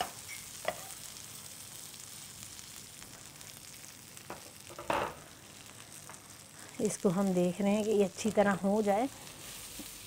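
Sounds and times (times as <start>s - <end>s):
omelette sizzling in a pan: 0.0s - 10.0s.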